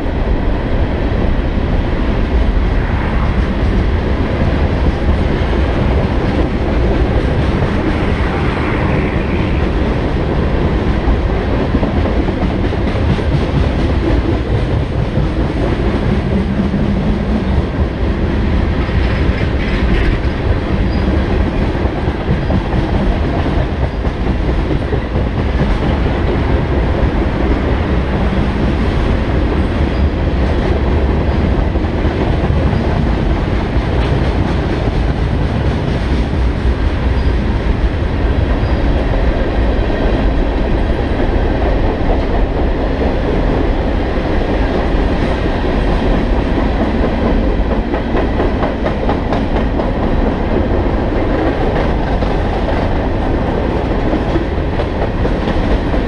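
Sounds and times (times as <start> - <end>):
steel train wheels on rails: 0.0 - 56.0.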